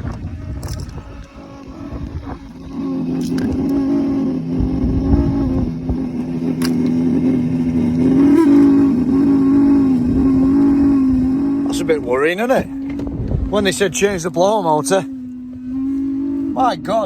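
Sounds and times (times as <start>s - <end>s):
heater blower motor humming: 0.0s - 17.0s.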